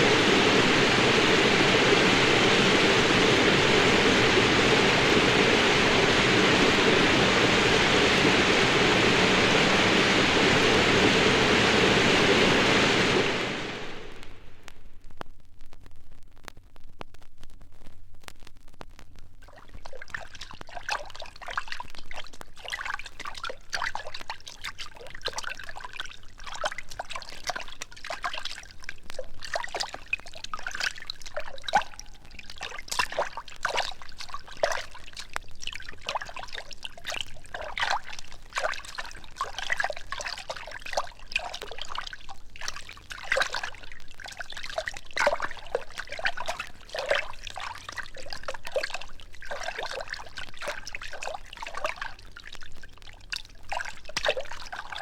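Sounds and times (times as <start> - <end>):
liquid bubbling and gurgling: 0.0 - 14.7, 19.4 - 55.0.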